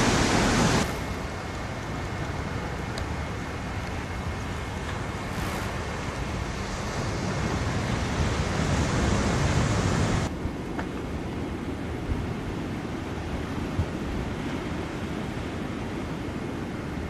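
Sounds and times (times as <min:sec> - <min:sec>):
ocean waves breaking: 0:00.0 - 0:17.0.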